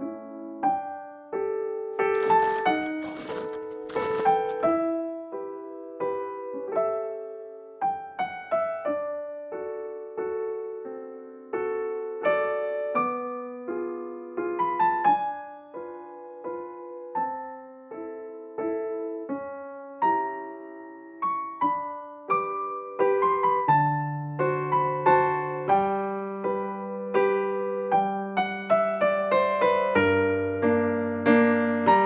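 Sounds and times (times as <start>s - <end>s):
slow solo piano melody: 3.6s - 32.0s.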